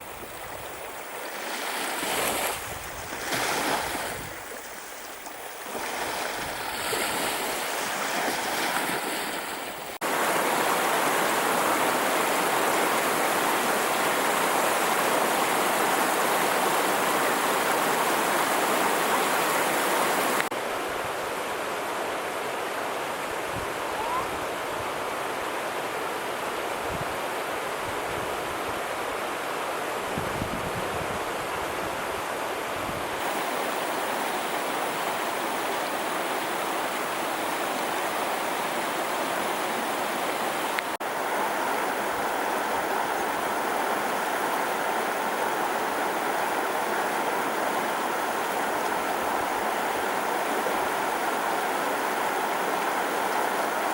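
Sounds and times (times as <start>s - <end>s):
running water rushing: 0.0s - 53.9s.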